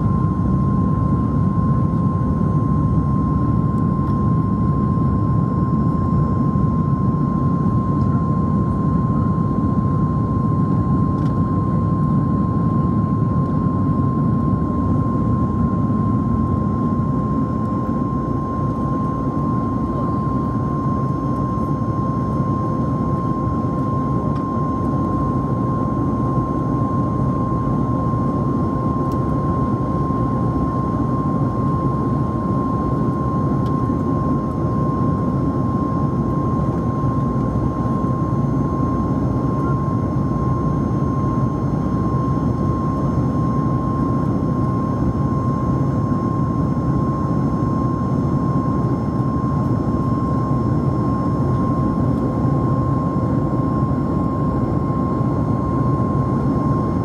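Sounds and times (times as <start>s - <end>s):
airplane engine and airflow roar: 0.0s - 57.0s.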